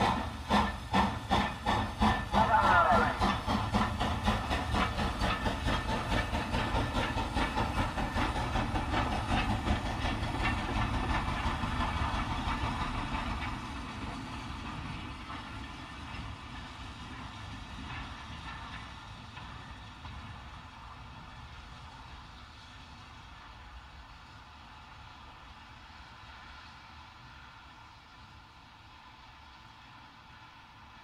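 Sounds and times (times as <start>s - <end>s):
steam hiss: 0.0s - 31.0s
steam locomotive chuffing: 0.0s - 31.0s.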